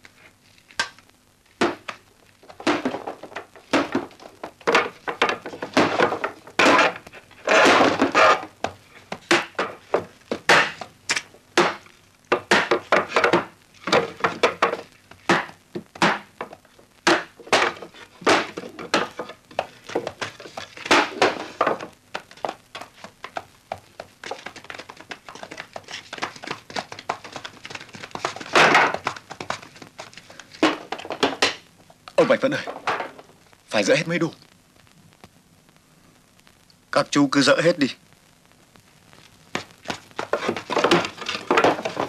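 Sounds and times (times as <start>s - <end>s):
wooden planks knocking and thudding: 1.6s - 31.6s, 32.2s - 33.4s, 39.5s - 42.0s.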